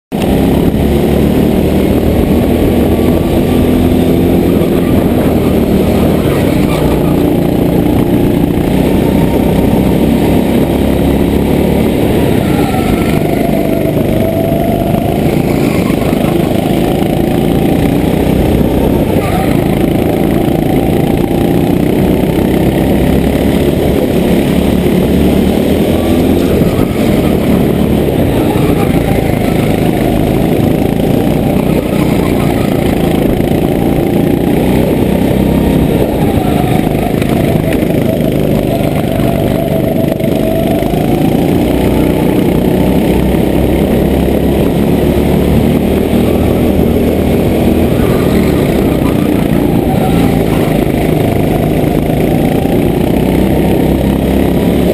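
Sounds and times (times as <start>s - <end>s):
go-kart engine revving: 0.1s - 54.9s.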